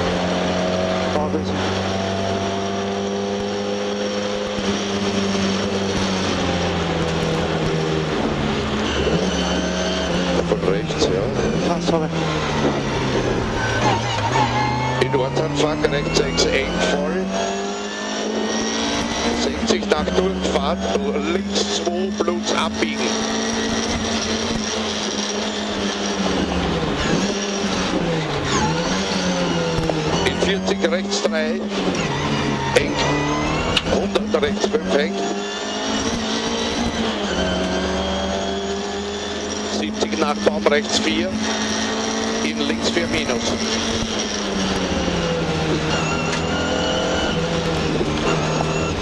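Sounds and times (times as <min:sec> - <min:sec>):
car engine at speed: 0:00.0 - 0:49.0.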